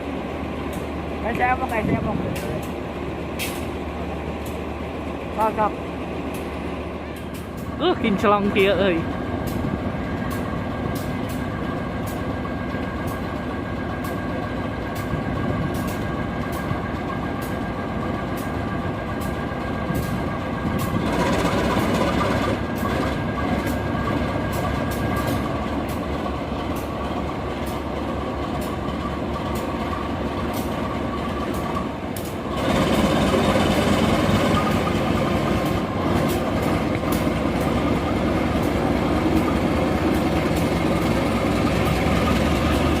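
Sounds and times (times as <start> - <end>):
train rumble: 0.0 - 43.0
train wheels clicking over rail joints: 0.0 - 43.0.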